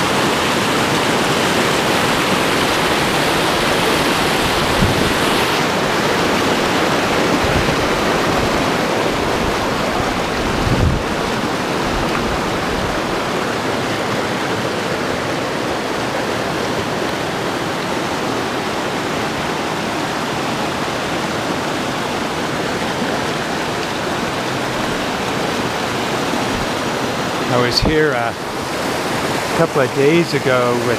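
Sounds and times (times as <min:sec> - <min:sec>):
stream rushing over rocks: 0:00.0 - 0:30.9.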